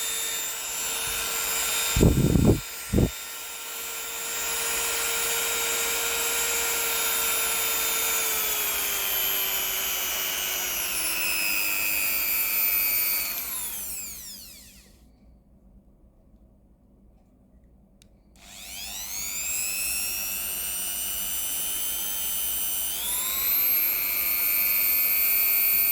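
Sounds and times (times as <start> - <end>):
rotary tool motor whine: 0.0 - 15.0, 18.4 - 25.9.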